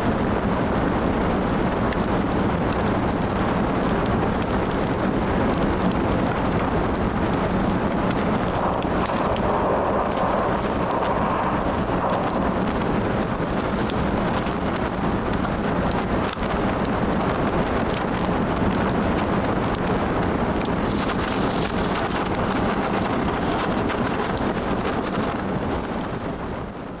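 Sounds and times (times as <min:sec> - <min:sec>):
wood fire crackling: 0:00.0 - 0:26.4.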